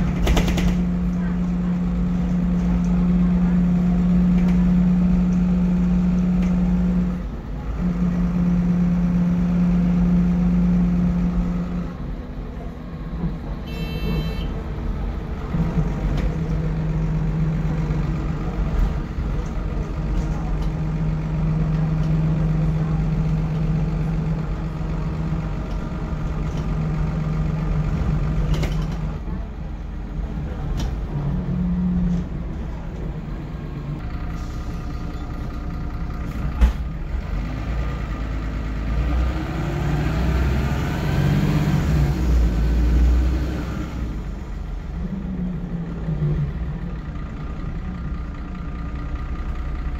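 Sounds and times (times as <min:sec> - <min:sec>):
bus diesel engine droning: 0:00.0 - 0:49.9.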